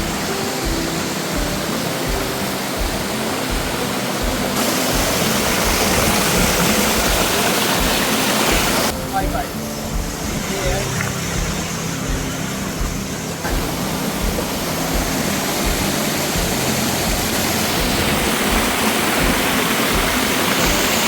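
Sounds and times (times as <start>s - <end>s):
waterfall pouring: 0.0s - 21.0s.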